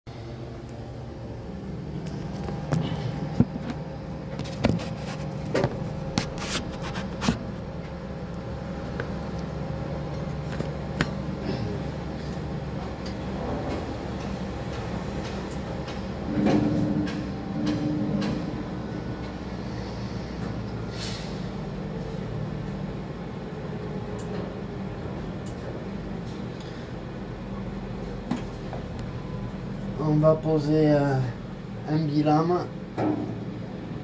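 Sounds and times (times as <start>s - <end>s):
low machine hum: 0.1s - 34.0s.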